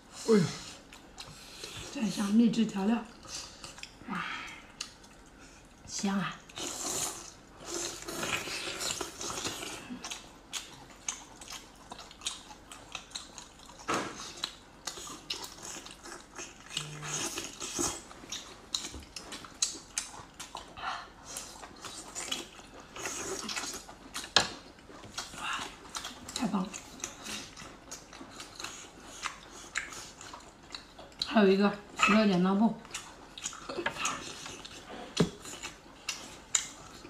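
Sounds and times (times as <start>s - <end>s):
chewing and mouth-smacking: 0.6s - 2.2s, 3.0s - 37.0s.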